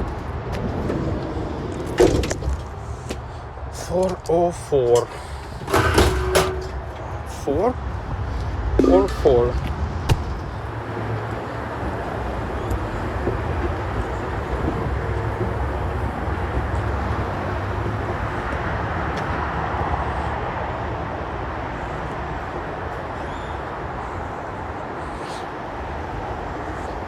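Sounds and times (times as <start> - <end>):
vehicle rumble: 0.0 - 27.0.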